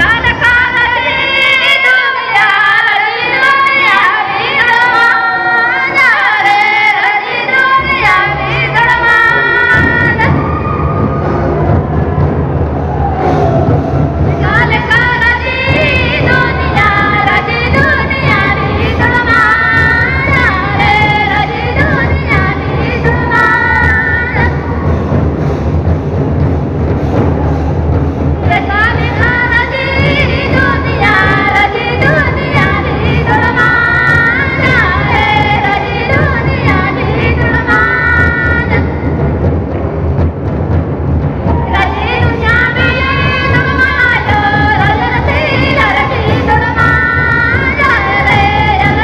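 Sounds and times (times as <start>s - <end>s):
drum: 0.0s - 1.6s, 7.4s - 49.0s
women singing in unison: 0.0s - 11.1s, 13.6s - 25.0s, 28.5s - 39.0s, 41.5s - 49.0s.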